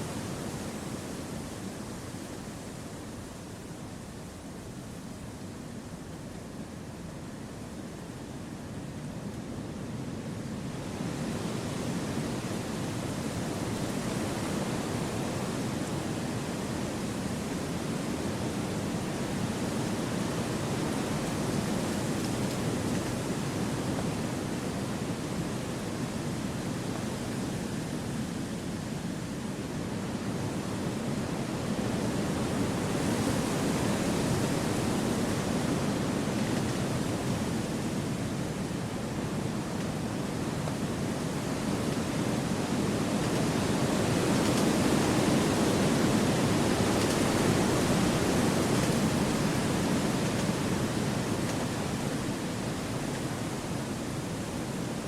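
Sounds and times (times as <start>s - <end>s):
wind blowing through trees: 0.0s - 55.0s.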